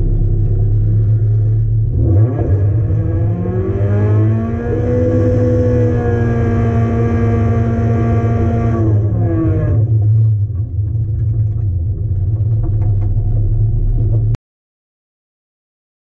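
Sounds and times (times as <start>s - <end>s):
car engine from inside cabin: 0.0s - 14.4s.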